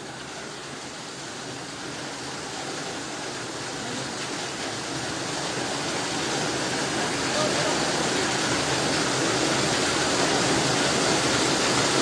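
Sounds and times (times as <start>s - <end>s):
floodwater rushing down a street: 0.0s - 12.0s.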